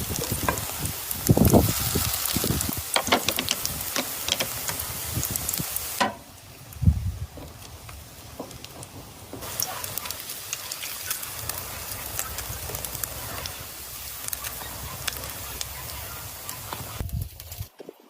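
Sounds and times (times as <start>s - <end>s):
fish sizzling on a grill: 0.0s - 17.7s.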